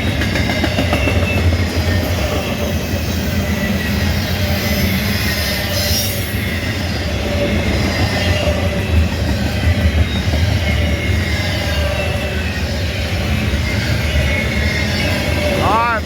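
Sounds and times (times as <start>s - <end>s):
freight train wheels rumbling: 0.0s - 16.0s
faint high wheel squeal: 2.0s - 16.0s.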